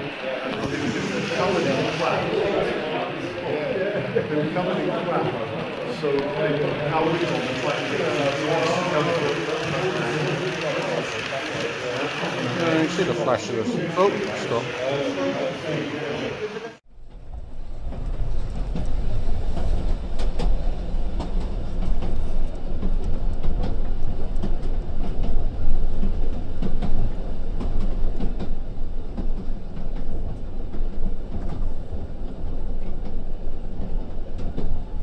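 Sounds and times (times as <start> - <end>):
train rumbling on rails: 0.0 - 35.0
wheels clicking on track: 0.0 - 35.0.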